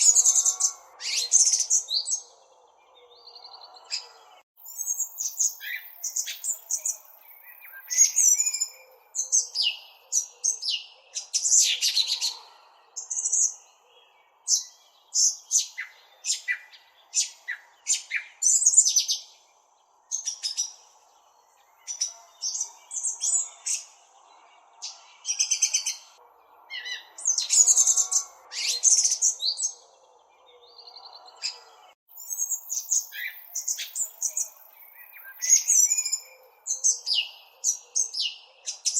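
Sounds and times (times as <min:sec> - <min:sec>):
small songbird chirping: 0:00.0 - 0:38.9.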